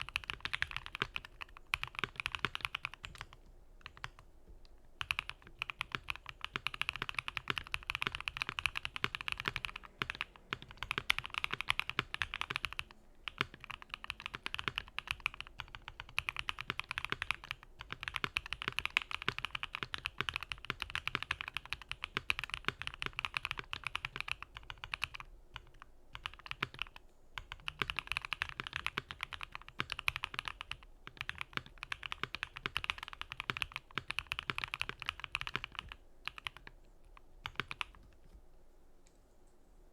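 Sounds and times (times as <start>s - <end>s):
mechanical keyboard keystrokes: 0.0s - 4.2s, 5.0s - 36.7s, 37.4s - 38.2s.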